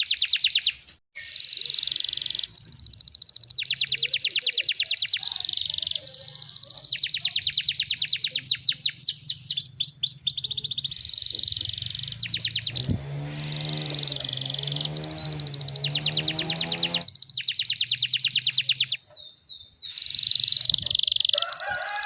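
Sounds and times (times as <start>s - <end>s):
canary singing rapid trills: 0.0s - 22.0s.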